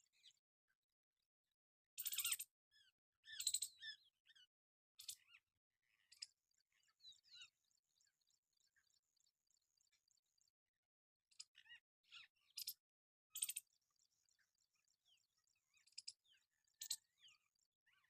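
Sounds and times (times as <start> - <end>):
faint high chirping: 2.0 - 10.4, 11.3 - 18.0.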